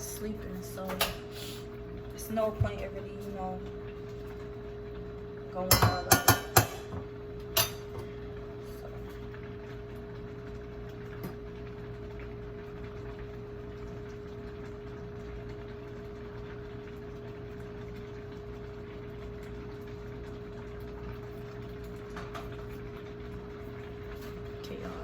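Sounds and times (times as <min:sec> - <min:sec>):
water heating in pot: 0:00.0 - 0:25.0.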